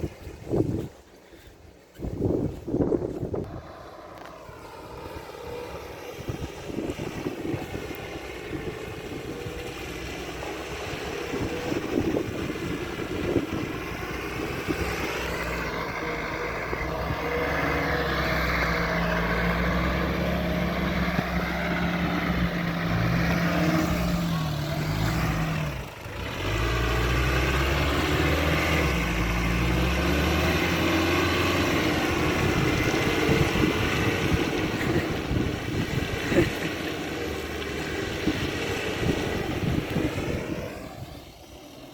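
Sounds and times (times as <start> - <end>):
car engine revving: 3.4 - 41.9.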